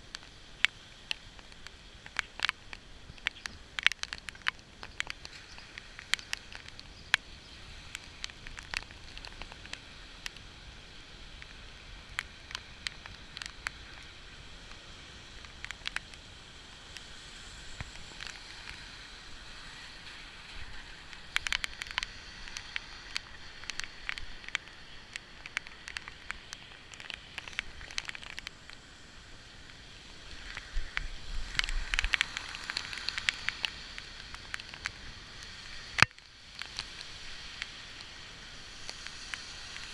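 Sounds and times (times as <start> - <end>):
rain falling: 0.0 - 39.9
sharp drips and splats: 0.0 - 39.9.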